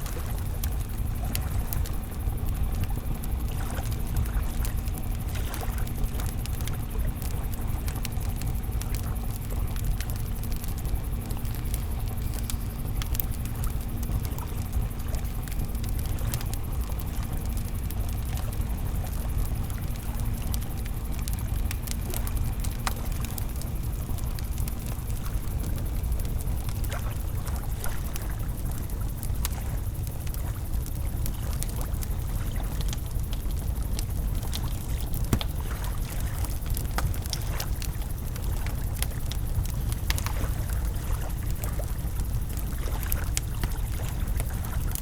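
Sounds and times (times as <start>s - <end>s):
campfire crackling and popping: 0.0s - 45.0s.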